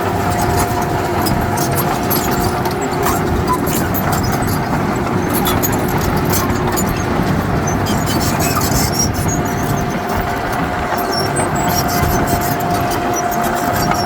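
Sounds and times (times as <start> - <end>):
diesel machinery clattering: 0.0 - 14.0.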